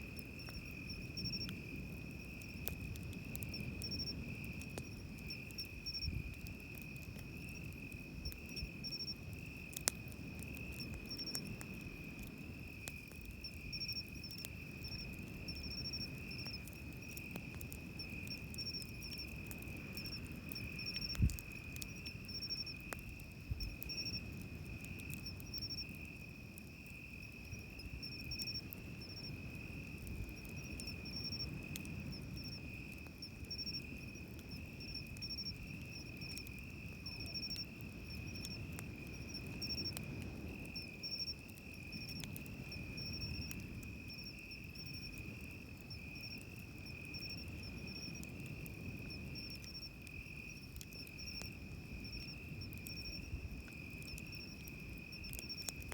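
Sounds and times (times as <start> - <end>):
campfire crackling: 0.0 - 55.9
insects trilling: 0.1 - 55.9.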